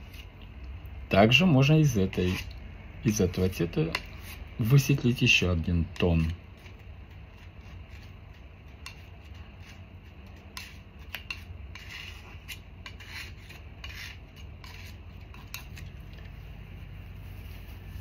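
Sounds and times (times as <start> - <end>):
low steady hum: 0.0 - 18.0
palette knife scraping paint: 1.6 - 18.0.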